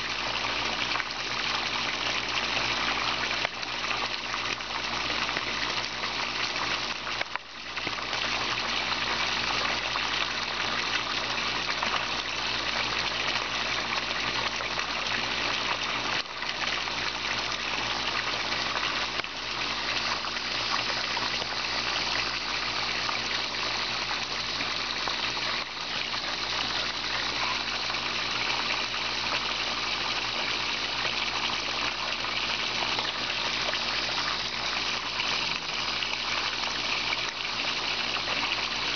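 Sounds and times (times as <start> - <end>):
water splashing into pond: 0.0 - 38.9.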